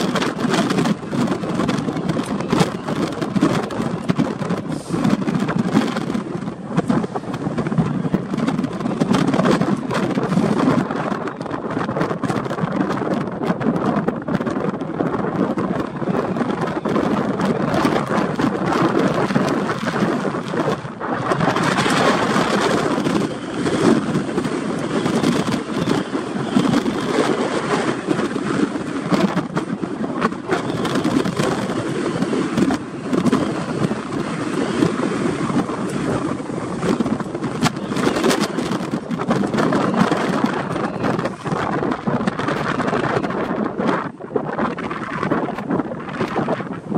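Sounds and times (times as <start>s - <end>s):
railings whistling in wind: 0.0s - 46.9s
strong gusting wind: 0.0s - 46.9s.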